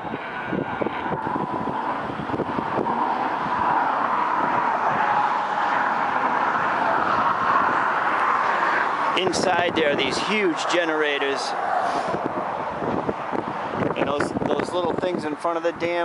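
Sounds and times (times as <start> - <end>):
car road noise: 0.0 - 16.0
wind noise: 0.0 - 16.0.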